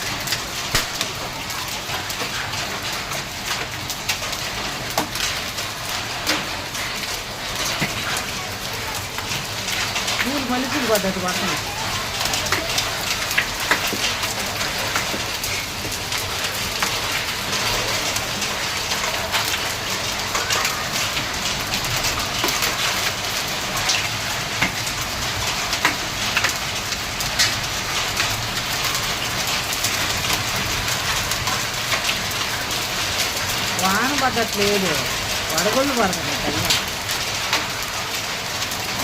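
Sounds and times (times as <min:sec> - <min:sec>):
hailstones clicking on surfaces: 0:00.0 - 0:39.0
rain downpour hiss: 0:00.0 - 0:39.0.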